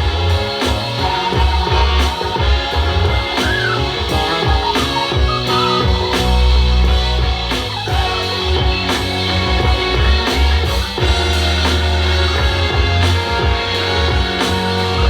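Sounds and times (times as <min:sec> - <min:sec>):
bass guitar: 0:00.0 - 0:15.0
drum kit beat: 0:00.0 - 0:15.0
electric guitar: 0:00.0 - 0:15.0.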